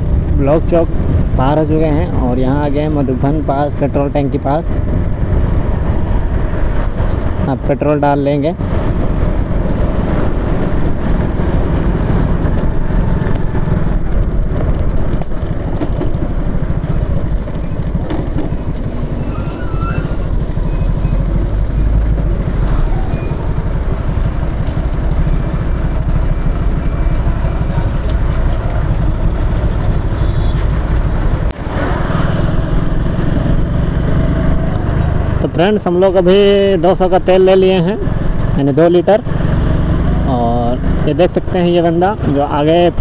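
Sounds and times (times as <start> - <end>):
wind rumble on microphone: 0.0 - 43.0
motorcycle engine running: 8.3 - 43.0.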